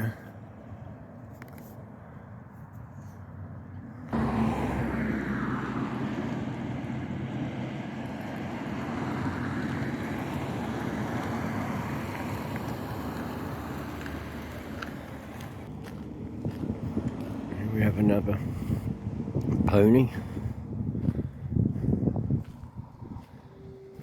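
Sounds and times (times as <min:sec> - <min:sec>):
passing vehicle engine: 0:04.0 - 0:24.0.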